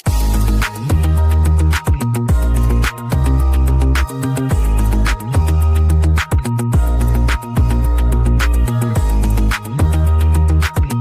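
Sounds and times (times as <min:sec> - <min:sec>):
electronic music with steady beat: 0:00.0 - 0:11.0
heavy sustained bass notes: 0:00.0 - 0:11.0.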